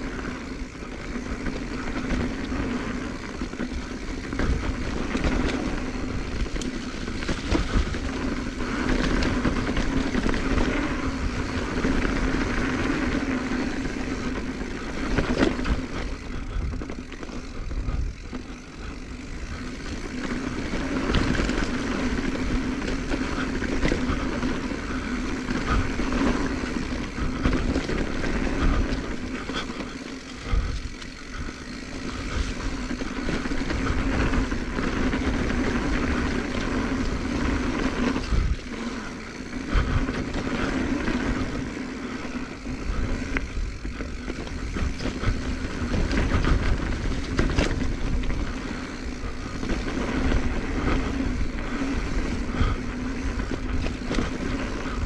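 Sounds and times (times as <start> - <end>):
bike knocking and rattling: 0.0 - 55.0
bike tyres rumbling on dirt: 0.0 - 55.0.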